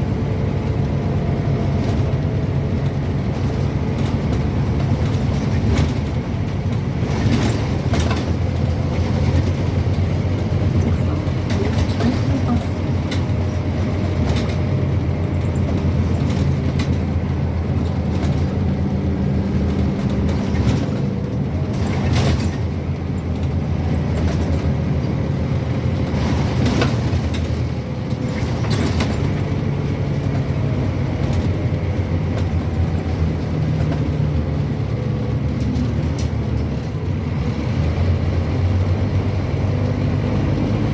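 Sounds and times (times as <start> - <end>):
bus body rattling and knocking: 0.0 - 40.9
bus diesel engine droning: 0.0 - 40.9.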